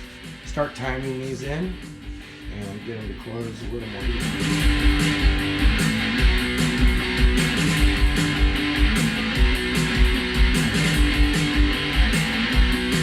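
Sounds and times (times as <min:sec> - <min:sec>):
drum beat: 0:00.0 - 0:13.0
guitar rock music: 0:00.0 - 0:13.0.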